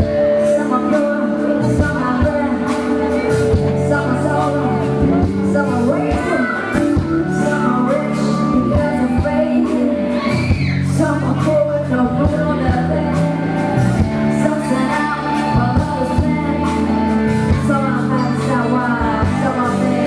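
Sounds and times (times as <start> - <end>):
bass line: 0.0 - 20.0
woman singing into a microphone: 0.0 - 20.0.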